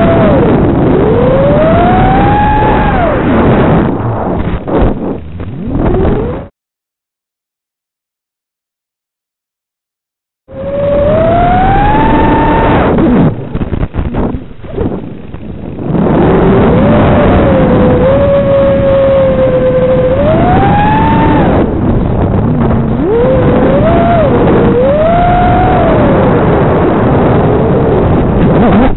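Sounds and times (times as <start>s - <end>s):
drone motors whining: 0.0s - 6.5s, 10.5s - 28.9s
rough rushing noise: 0.0s - 6.5s, 10.6s - 28.9s.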